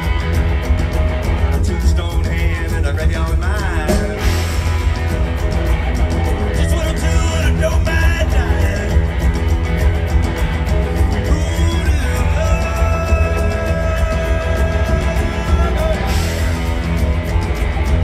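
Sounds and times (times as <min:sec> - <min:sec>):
live blues-rock band: 0:00.0 - 0:18.0.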